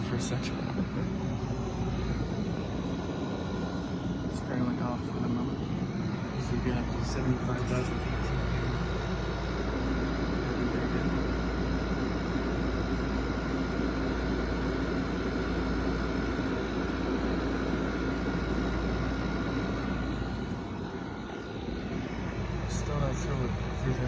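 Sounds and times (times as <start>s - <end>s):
air conditioner humming: 0.0s - 24.0s
constant tone: 0.0s - 24.0s.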